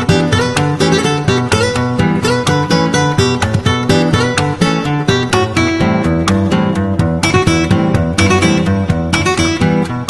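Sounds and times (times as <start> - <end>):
classical acoustic guitar playing: 0.0 - 10.0.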